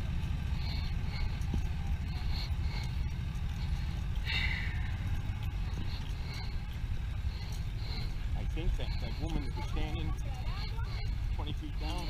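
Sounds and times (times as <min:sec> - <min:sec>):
faint ticks: 0:00.1 - 0:12.0.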